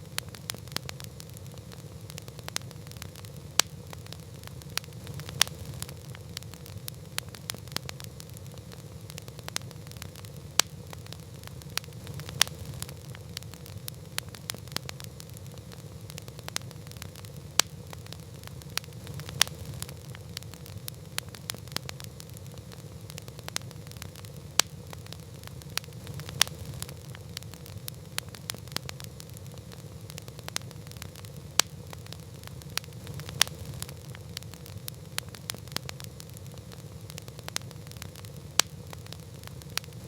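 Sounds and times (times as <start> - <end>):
campfire crackling: 0.0 - 40.0
sharp fire pops: 0.0 - 40.0.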